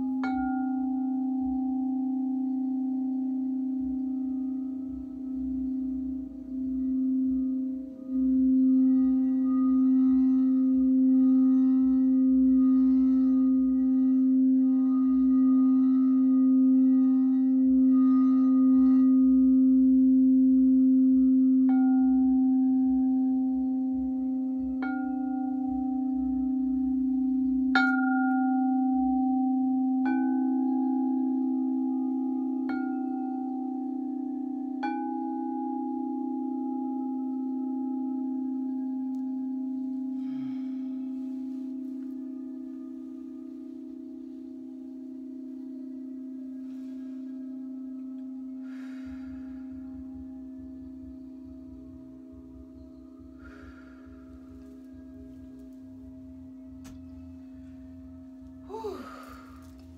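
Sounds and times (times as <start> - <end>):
singing bowl hum: 0.0 - 59.9
singing bowls struck ringing: 0.0 - 59.9.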